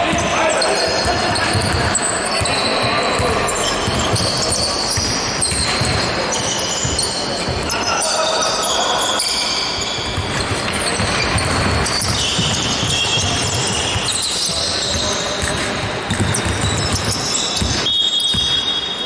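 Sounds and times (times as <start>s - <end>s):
basketball bouncing on court: 0.0s - 7.8s, 10.0s - 18.6s
sneaker squeaks: 0.0s - 19.0s
voices echoing: 0.0s - 19.0s.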